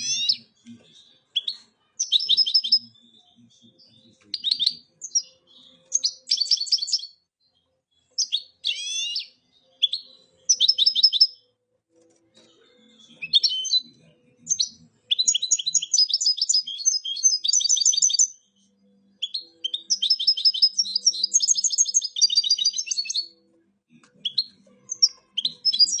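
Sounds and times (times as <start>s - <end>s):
finch twittering song: 0.0s - 11.5s, 12.4s - 26.0s.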